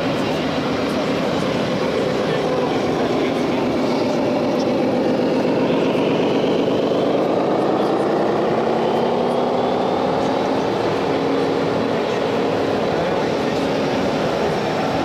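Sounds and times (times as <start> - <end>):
model truck engine rumble: 0.0 - 15.0.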